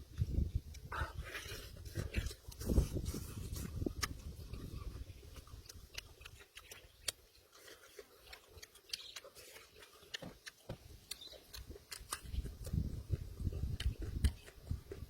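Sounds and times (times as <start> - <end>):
chewing mouth smacks: 0.7 - 15.0.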